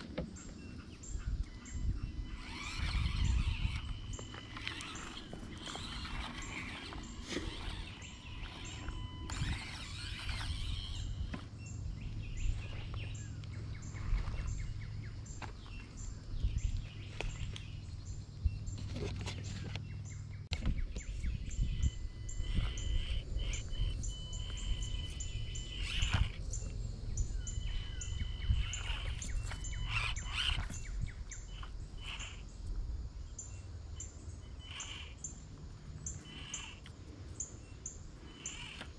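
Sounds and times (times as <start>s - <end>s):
steady low rumble: 0.0s - 18.9s, 19.7s - 36.2s
birds chirping and calling: 0.0s - 38.9s.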